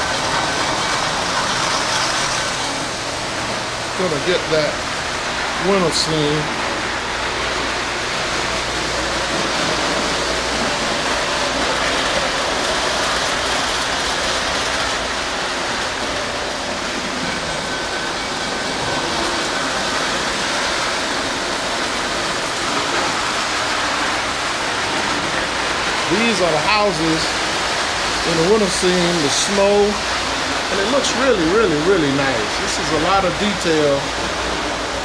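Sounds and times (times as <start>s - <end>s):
model train wheels on rail: 0.0s - 35.0s.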